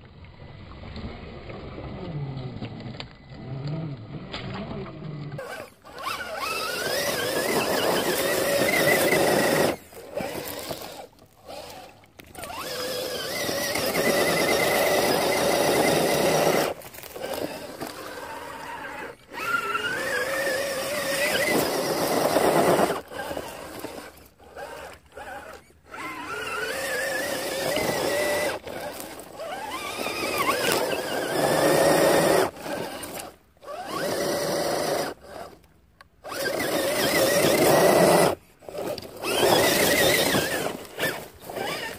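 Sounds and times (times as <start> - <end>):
electric motor and gearbox whine: 1.9 - 41.9.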